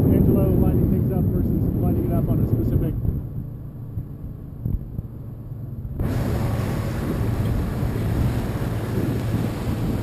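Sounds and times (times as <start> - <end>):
motorboat engine rumbling: 0.0 - 10.0
rushing wind and water: 0.0 - 10.0.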